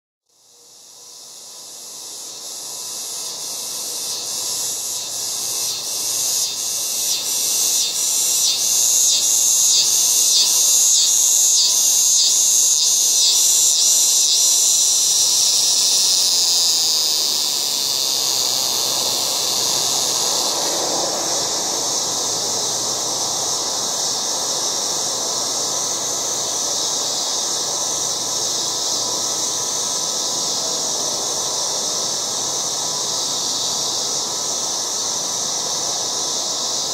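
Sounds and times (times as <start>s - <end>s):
cicadas buzzing: 0.3s - 36.9s.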